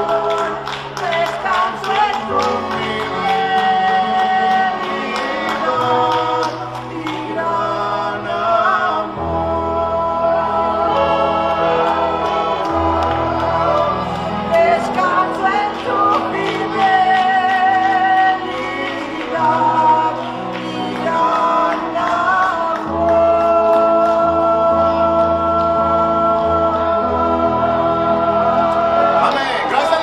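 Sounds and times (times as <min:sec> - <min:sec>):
church worship music with singing: 0:00.0 - 0:30.0.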